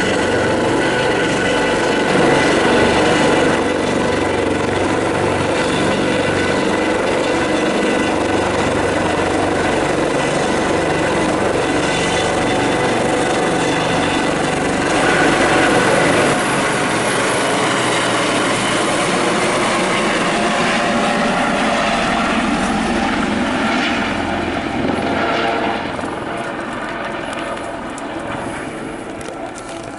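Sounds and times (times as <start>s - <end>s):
helicopter hovering: 0.0s - 29.9s.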